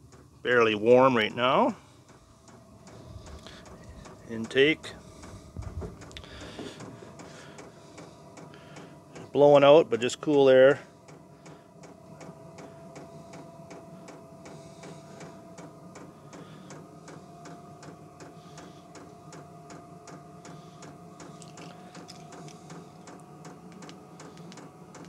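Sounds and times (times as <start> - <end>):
blower fan whining: 0.0 - 25.0
fuel pump ticking: 0.0 - 25.0.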